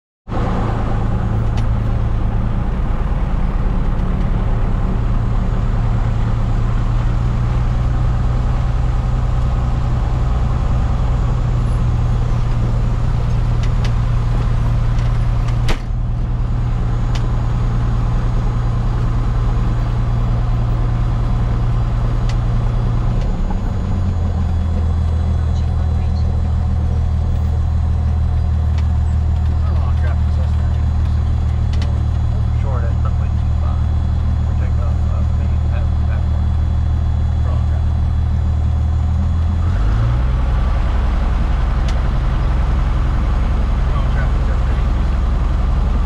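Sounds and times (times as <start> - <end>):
propeller plane engine running: 0.3 - 46.0.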